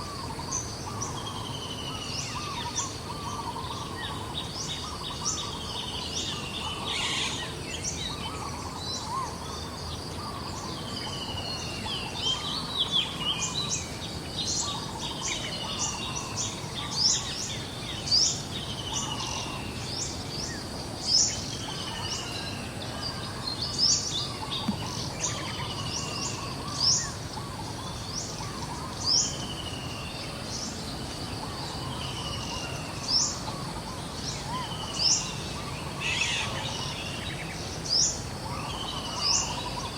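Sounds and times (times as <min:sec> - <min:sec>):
birds chirping: 0:00.0 - 0:39.9
outdoor background hiss: 0:00.0 - 0:39.9.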